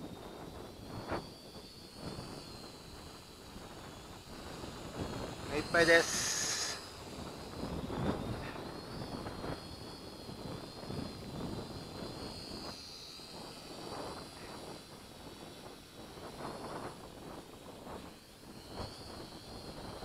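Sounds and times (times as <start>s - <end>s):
drone propellers whining: 0.0s - 20.0s
wind buffeting microphone: 0.0s - 20.0s.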